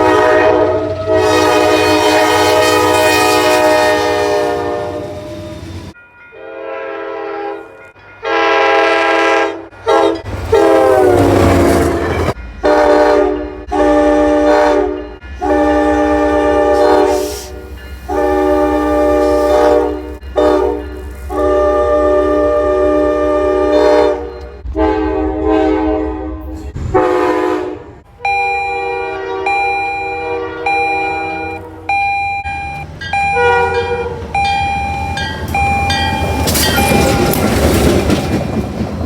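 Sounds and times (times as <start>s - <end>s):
train air horn blasts: 0.0s - 5.7s, 6.4s - 32.1s, 33.3s - 34.4s
passing train rumble: 0.0s - 39.0s.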